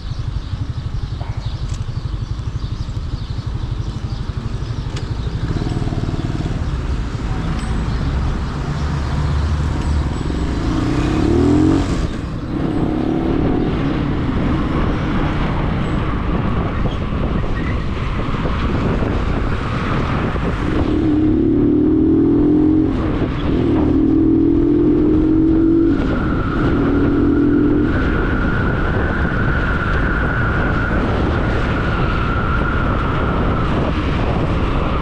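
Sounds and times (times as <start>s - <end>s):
vehicle engine running: 0.0s - 28.5s.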